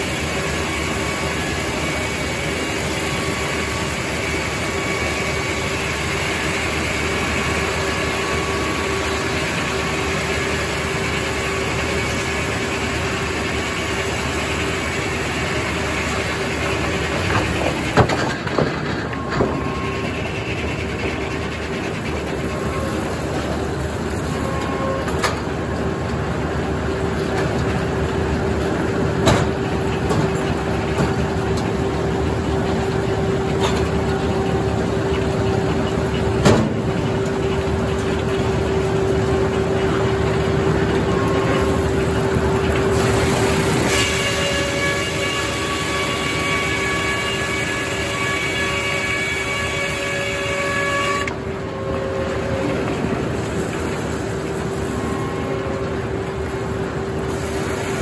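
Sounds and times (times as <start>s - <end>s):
sawmill machine drone: 0.0s - 58.0s.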